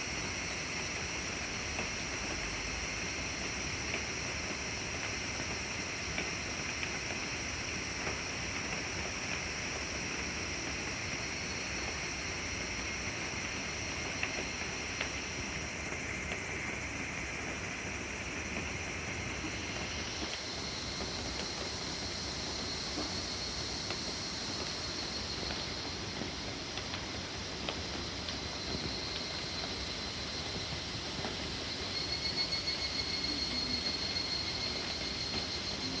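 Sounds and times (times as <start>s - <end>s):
rain falling on woodland: 0.0s - 36.0s.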